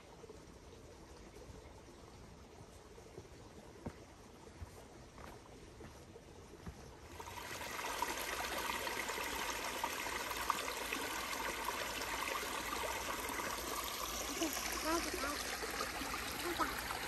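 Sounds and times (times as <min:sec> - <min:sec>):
creek trickling over rocks: 0:00.0 - 0:17.0.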